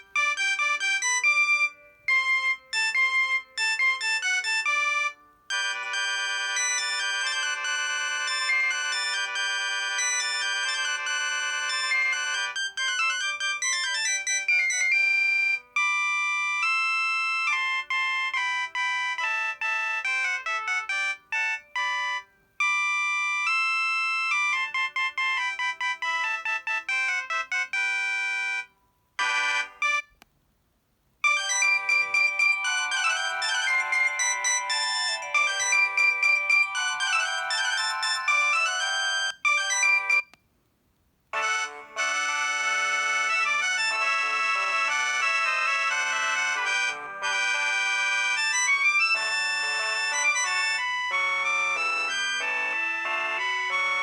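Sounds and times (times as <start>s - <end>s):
electronic phone ringtone melodies: 0.0s - 30.2s, 31.2s - 40.4s, 41.4s - 54.0s.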